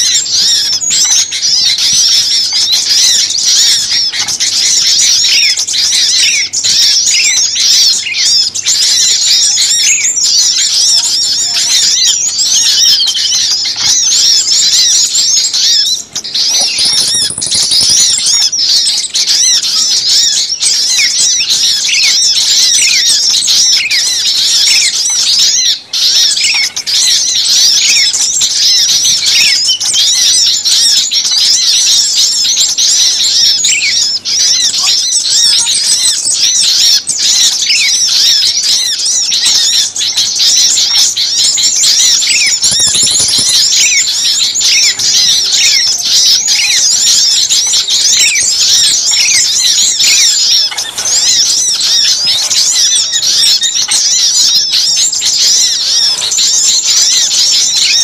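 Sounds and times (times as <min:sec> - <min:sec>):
chorus of small birds chirping: 0:00.0 - 0:58.0.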